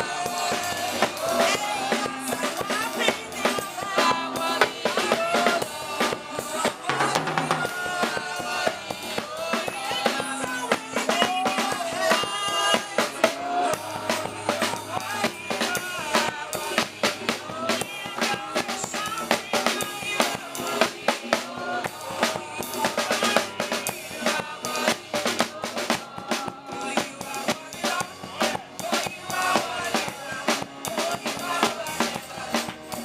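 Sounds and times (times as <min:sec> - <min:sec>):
drum kit: 0:00.0 - 0:33.0
gospel band music: 0:00.0 - 0:33.0.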